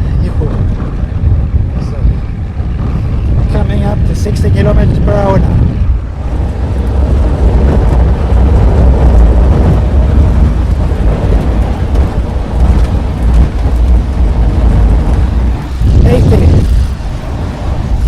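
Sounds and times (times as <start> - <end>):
tyres rolling on road: 0.0 - 18.0
wind buffeting microphone: 0.0 - 18.0.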